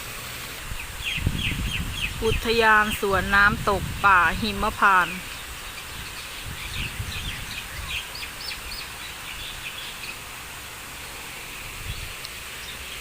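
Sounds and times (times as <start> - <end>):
steady outdoor hiss: 0.0 - 13.0
small birds chirping: 0.7 - 3.5, 4.4 - 13.0.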